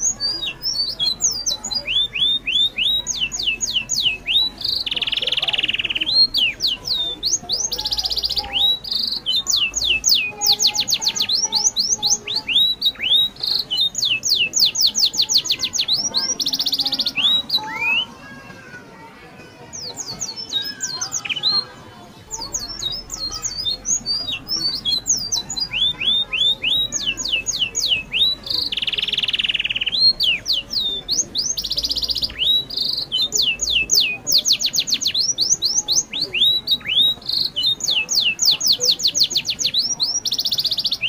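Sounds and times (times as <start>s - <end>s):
bird singing whistled notes: 0.0s - 18.2s, 22.3s - 41.0s.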